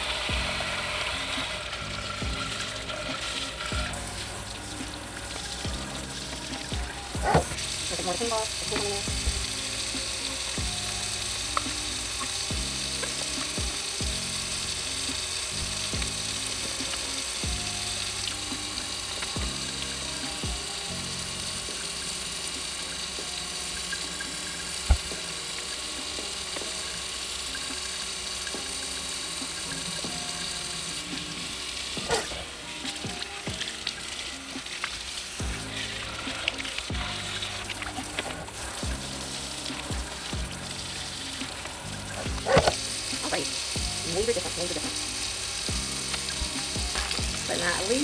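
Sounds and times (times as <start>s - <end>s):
faucet water splashing: 0.0s - 48.0s.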